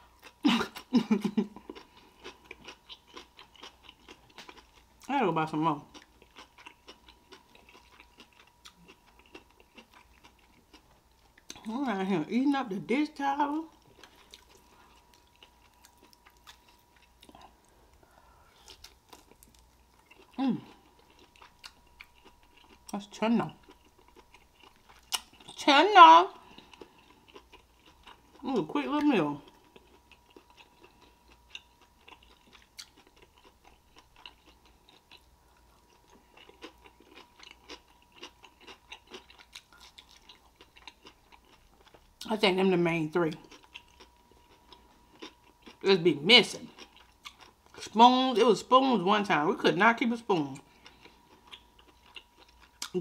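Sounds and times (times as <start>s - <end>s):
person chewing food: 0.0s - 5.1s, 5.9s - 11.7s, 13.7s - 25.6s, 26.4s - 28.4s, 29.4s - 42.3s, 43.3s - 45.8s, 46.5s - 47.9s, 50.6s - 53.0s.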